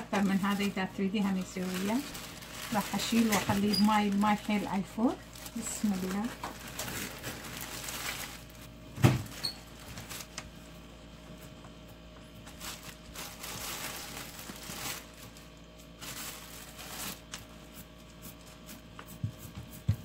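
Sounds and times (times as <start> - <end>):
plastic wrap rustling and crinkling: 0.0 - 10.8, 12.3 - 18.9.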